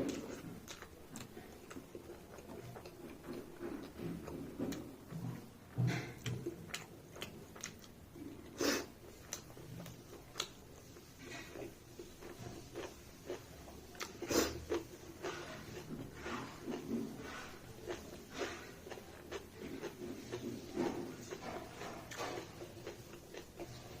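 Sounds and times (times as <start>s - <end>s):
chewing: 0.0s - 24.0s.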